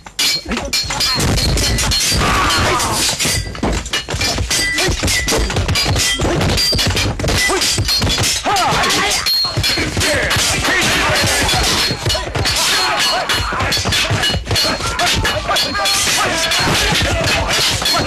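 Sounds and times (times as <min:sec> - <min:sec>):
fight whacks thuds and crashes: 0:00.5 - 0:18.0.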